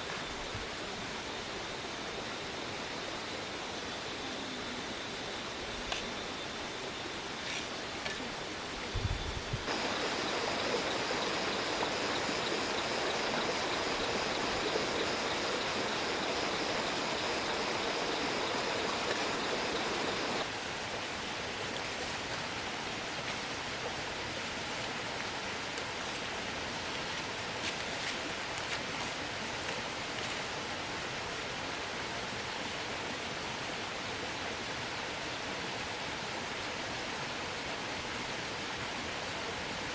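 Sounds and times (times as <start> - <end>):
rushing outdoor noise: 0.0 - 39.9.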